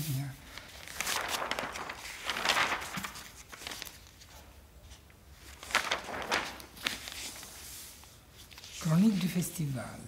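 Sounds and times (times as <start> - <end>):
newspaper pages turning: 0.1 - 9.4.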